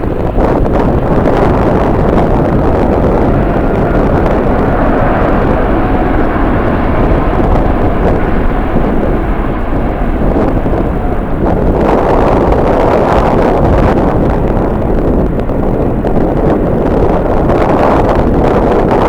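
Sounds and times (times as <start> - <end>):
jet engine noise: 0.0 - 19.0
wind buffeting the microphone: 0.0 - 19.0.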